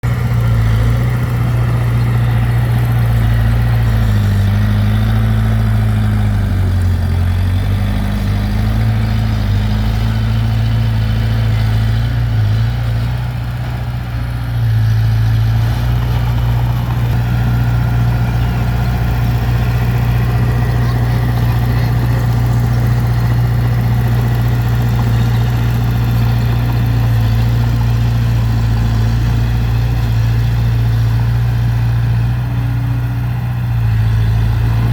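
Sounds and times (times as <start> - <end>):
heavy diesel engine droning: 0.0 - 34.9.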